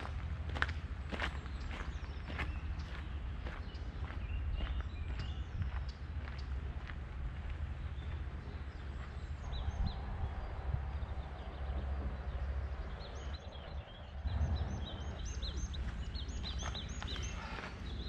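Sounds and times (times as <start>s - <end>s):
small songbirds chirping: 0.0s - 18.0s
steady low rumble: 0.0s - 18.0s.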